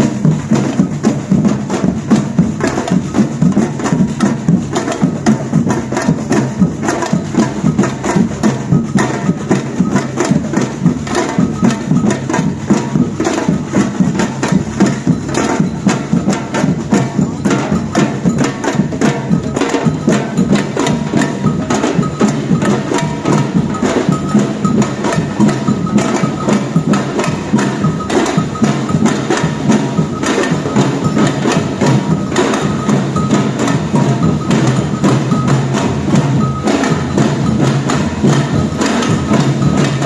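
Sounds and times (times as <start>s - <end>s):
samba drum band: 0.0s - 40.0s.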